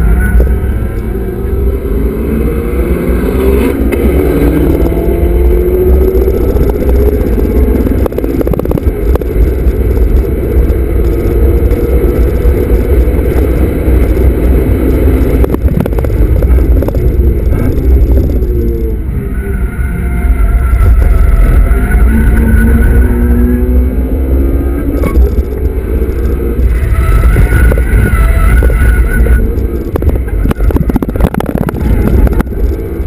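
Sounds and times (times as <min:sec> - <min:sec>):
car engine accelerating: 0:00.0 - 0:33.0
road and tyre rumble: 0:00.0 - 0:33.0.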